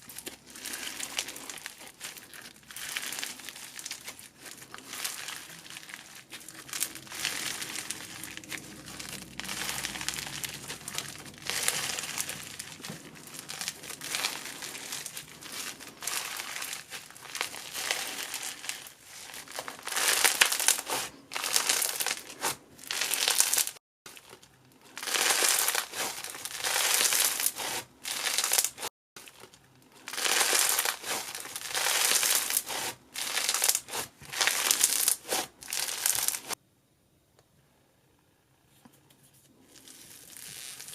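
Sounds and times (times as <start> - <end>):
hands squishing slime: 0.1 - 23.7, 24.9 - 28.9, 30.0 - 36.6.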